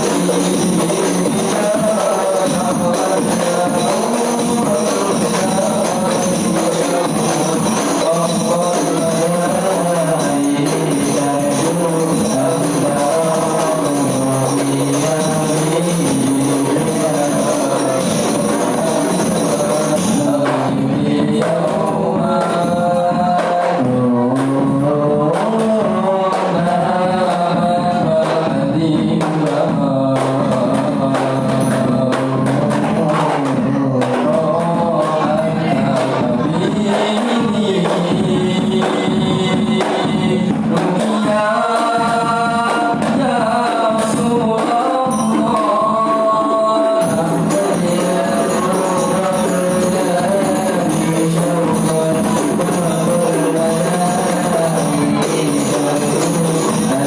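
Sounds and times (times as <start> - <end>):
frame drums with jingles: 0.0 - 57.0
voices singing together: 0.0 - 57.0.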